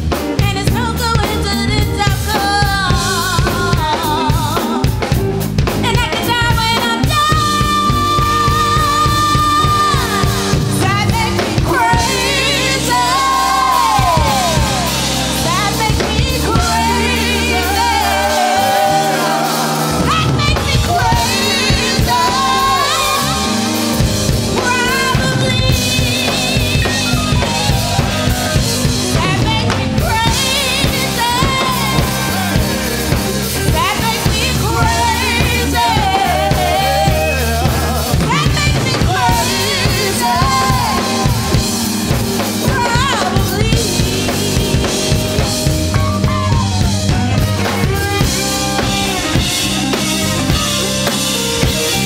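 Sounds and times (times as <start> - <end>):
drum kit beat: 0.0 - 52.0
electric bass: 0.0 - 52.0
woman singing: 0.3 - 50.8.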